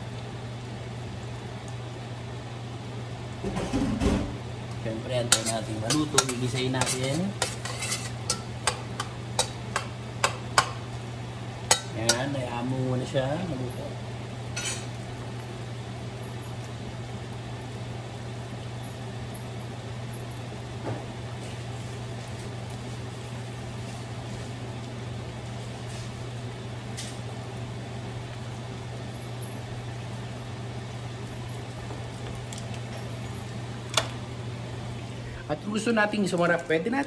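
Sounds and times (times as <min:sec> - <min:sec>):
butter and garlic sizzling: 0:04.4 - 0:37.0.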